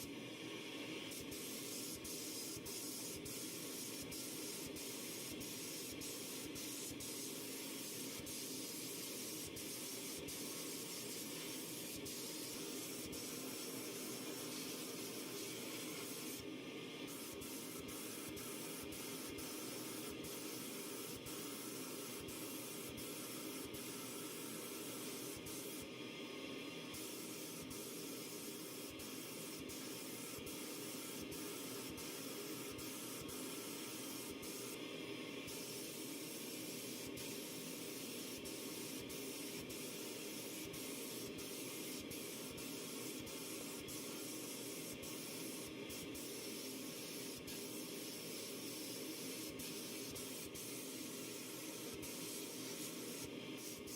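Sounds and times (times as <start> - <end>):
compressed air spray hissing: 1.1 - 25.9, 26.9 - 53.9.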